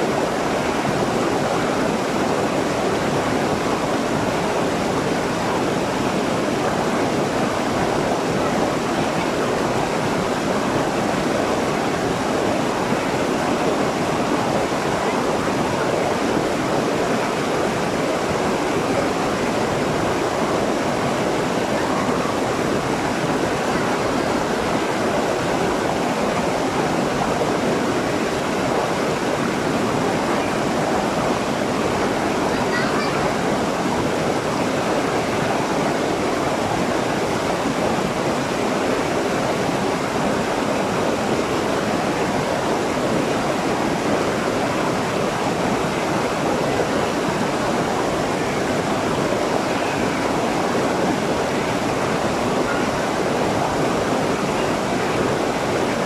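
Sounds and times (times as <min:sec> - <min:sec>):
waterfall rushing over stones: 0:00.0 - 0:56.0.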